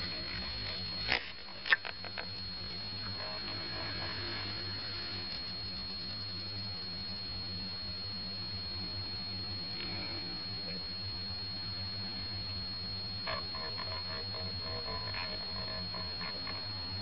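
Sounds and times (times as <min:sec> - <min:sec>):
high-pitched whine: 0:00.0 - 0:17.0
low hum: 0:00.0 - 0:17.0.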